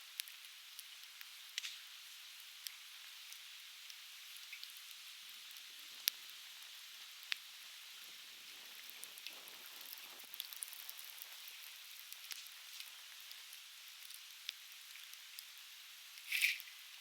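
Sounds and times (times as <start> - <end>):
firewood crackling in a campfire: 0.0 - 17.0.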